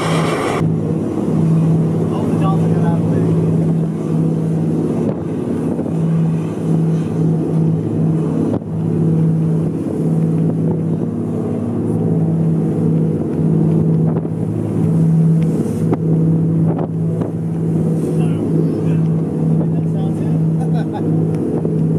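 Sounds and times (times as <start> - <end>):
boat engine droning: 0.0 - 21.9
wind buffeting microphone: 0.0 - 21.9.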